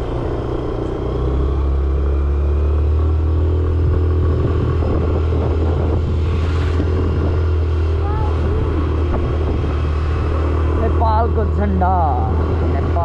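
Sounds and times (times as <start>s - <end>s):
scooter engine droning: 0.0s - 13.0s.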